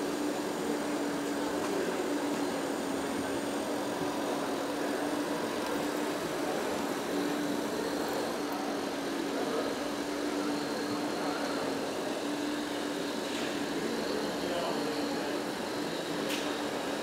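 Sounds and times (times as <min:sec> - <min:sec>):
large hall background noise: 0:00.0 - 0:17.0.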